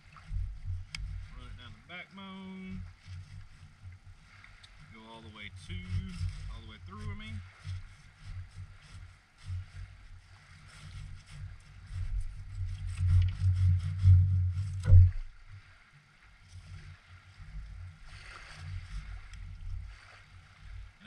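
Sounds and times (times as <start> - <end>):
low rumbling: 0.0 - 21.0.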